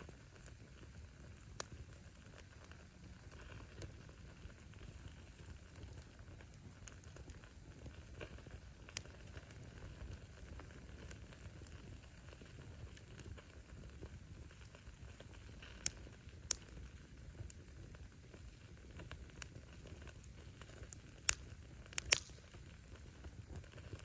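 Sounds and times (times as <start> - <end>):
low rumble of flame: 0.0 - 24.0
wood fire crackling: 0.0 - 24.0
firewood popping: 0.2 - 24.0.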